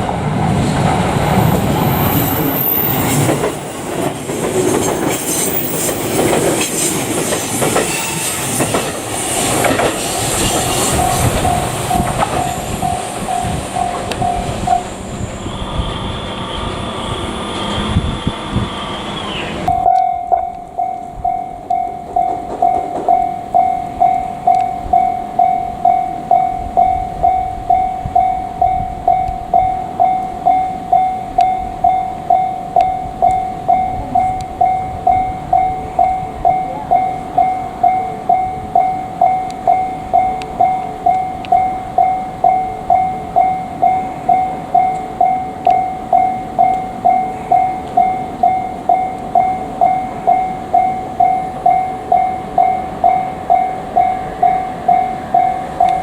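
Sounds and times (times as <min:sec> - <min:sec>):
level-crossing warning bell: 0:01.2 - 0:56.0.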